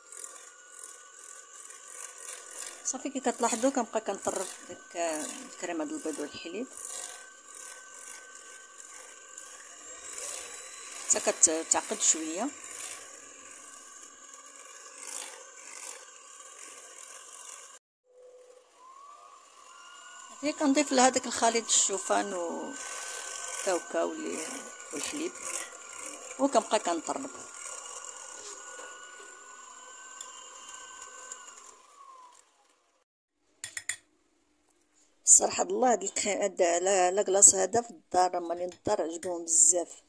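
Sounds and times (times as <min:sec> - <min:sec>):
electric hand mixer running: 0:00.0 - 0:33.0, 0:35.3 - 0:37.7.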